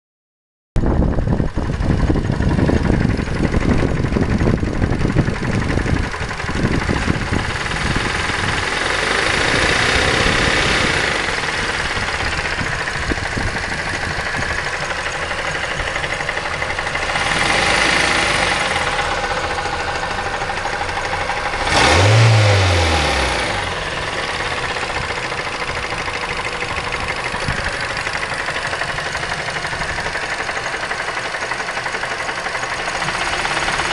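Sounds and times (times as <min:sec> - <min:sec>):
car engine revving with knock: 0:02.0 - 0:33.9.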